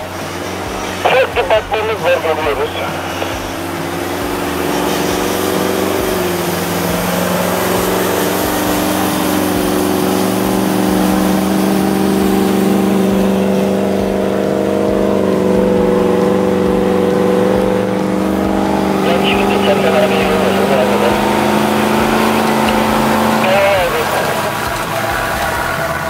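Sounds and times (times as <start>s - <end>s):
truck engine under load: 0.0s - 26.0s.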